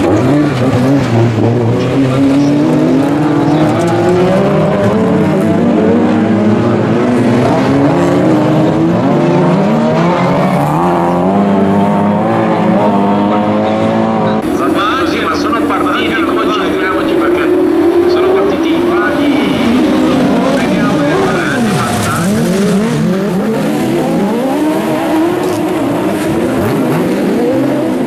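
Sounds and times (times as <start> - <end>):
race car engines revving: 0.0 - 28.0.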